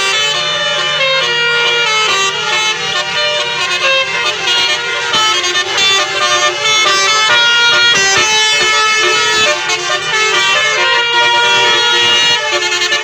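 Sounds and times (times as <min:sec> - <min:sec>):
musical bus air horns: 0:00.0 - 0:13.0.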